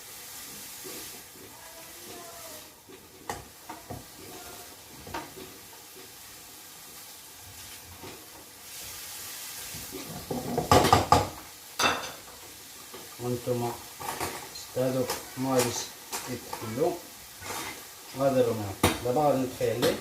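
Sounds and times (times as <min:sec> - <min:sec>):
food sizzling: 0:00.0 - 0:20.0.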